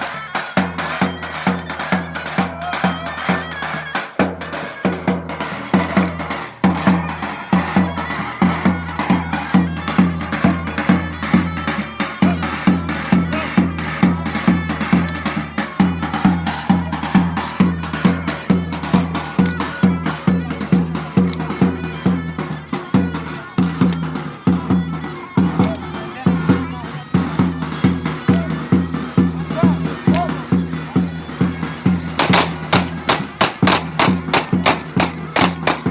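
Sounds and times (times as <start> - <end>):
shrill reed-pipe melody: 0.0 - 35.9
steady drum beat: 0.0 - 35.9.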